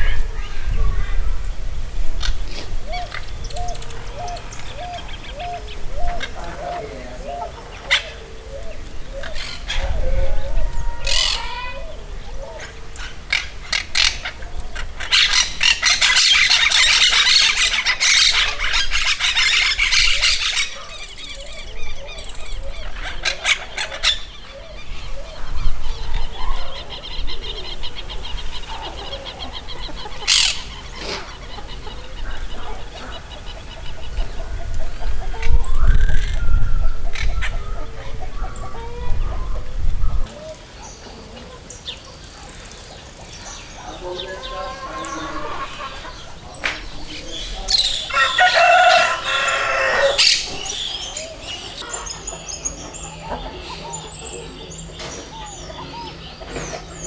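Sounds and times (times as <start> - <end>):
parakeets squawking and chattering: 0.0 - 1.4, 2.0 - 57.0.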